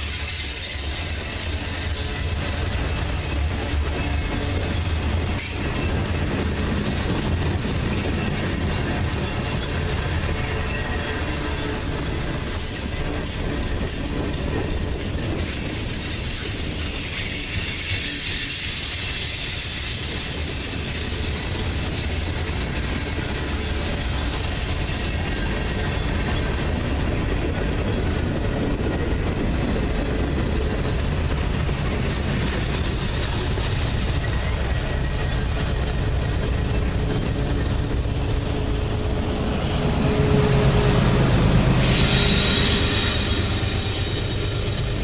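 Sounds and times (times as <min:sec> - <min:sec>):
freight train wheels on rails: 0:00.0 - 0:45.0.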